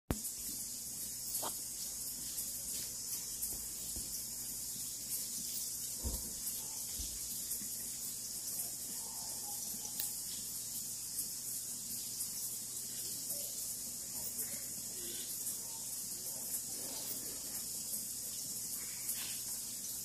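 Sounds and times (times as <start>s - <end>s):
insects and frogs chorus: 0.2s - 20.0s.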